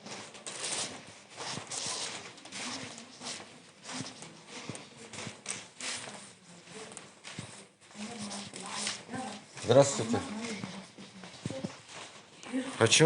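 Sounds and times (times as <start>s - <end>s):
footsteps on hard floor: 0.0s - 13.0s
rustling: 0.0s - 13.0s.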